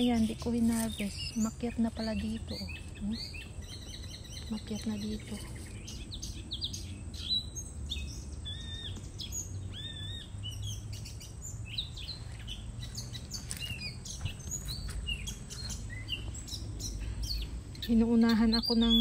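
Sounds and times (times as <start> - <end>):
songbirds chirping: 0.0 - 19.0
whistled bird notes: 0.0 - 19.0.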